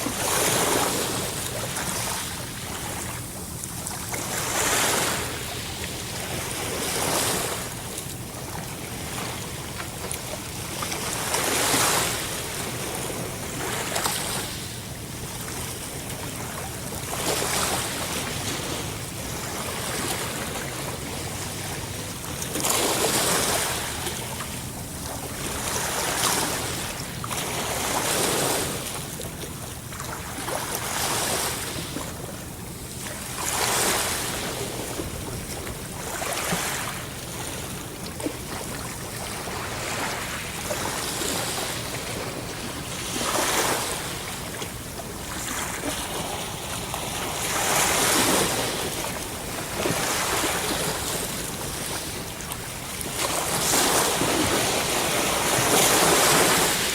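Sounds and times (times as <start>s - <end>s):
sea waves breaking on shore: 0.0s - 56.9s.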